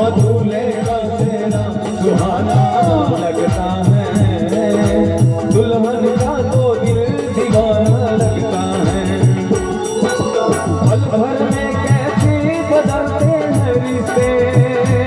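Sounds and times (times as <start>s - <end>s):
folk music: 0.0s - 15.0s
percussion beat: 0.0s - 15.0s
person singing: 0.0s - 15.0s.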